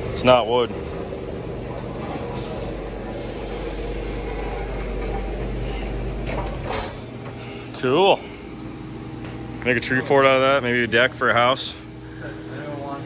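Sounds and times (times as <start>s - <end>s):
forklift running: 0.0s - 11.4s.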